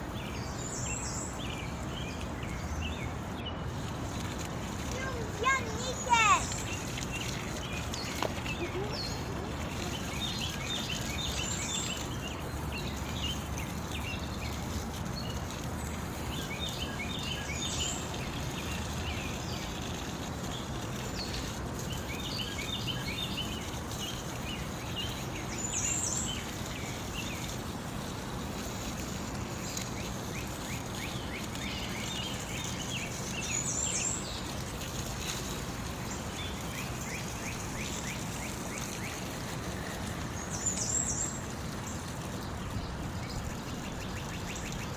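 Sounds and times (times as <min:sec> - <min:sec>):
running water: 0:00.0 - 0:44.9
small birds chirping: 0:00.0 - 0:44.9.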